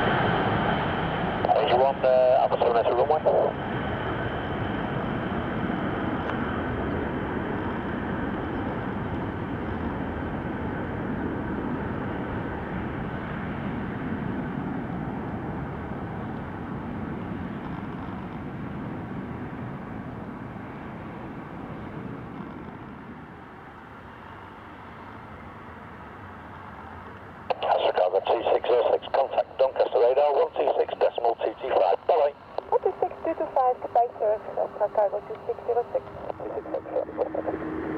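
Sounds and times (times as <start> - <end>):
jet engines at takeoff: 0.0 - 37.9.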